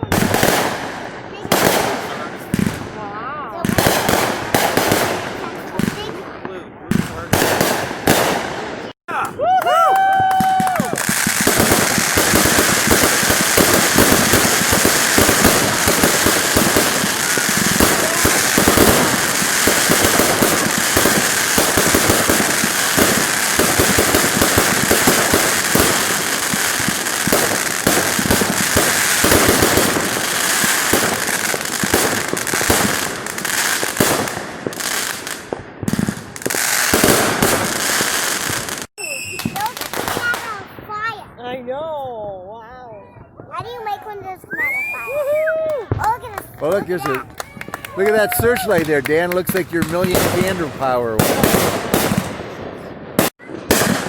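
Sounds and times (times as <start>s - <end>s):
fireworks popping and crackling: 0.0s - 9.2s, 9.9s - 41.2s, 43.5s - 54.0s.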